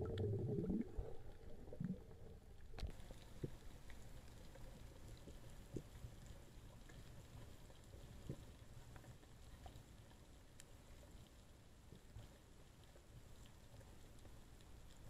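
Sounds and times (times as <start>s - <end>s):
faint low underwater rumble: 0.0s - 15.0s
faint clicks: 2.6s - 15.0s.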